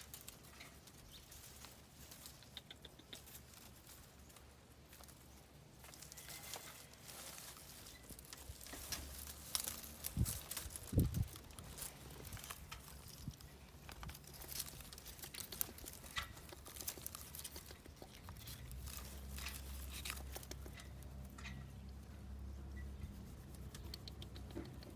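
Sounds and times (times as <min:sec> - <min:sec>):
wood mulch crackling and rustling: 0:00.0 - 0:02.4, 0:03.2 - 0:22.0
low steady hum: 0:00.0 - 0:24.9.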